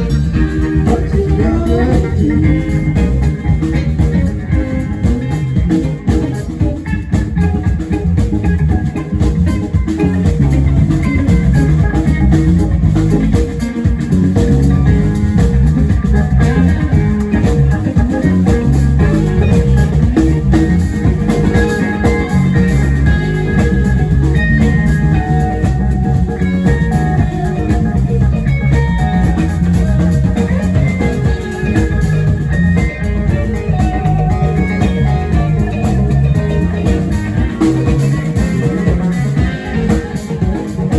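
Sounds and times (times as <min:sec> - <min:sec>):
bass guitar: 0:00.0 - 0:40.9
drum kit: 0:00.0 - 0:40.9
electric guitars: 0:00.0 - 0:40.9
keyboard: 0:00.0 - 0:40.9.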